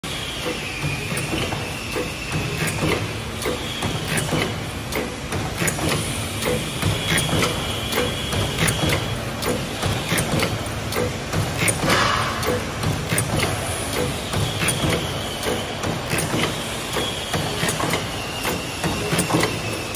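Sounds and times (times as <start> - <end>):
motor hum: 0.2 - 19.9
machine mechanism clicking: 0.4 - 19.9.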